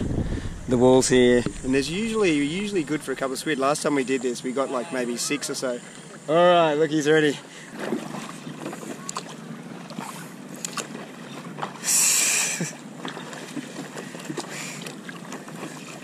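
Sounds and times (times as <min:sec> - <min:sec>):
paddle splashing water: 0:01.3 - 0:06.3, 0:07.4 - 0:16.0
water lapping against board: 0:01.3 - 0:06.3, 0:07.0 - 0:16.0.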